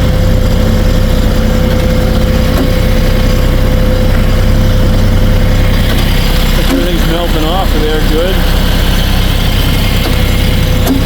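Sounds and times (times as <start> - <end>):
thin high whine: 0.0 - 11.0
tractor diesel engine drone: 0.0 - 11.0.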